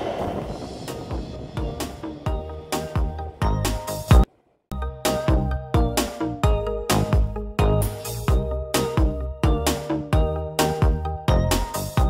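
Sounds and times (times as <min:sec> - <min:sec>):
background music with drum beat: 0:01.1 - 0:04.3, 0:04.9 - 0:12.0.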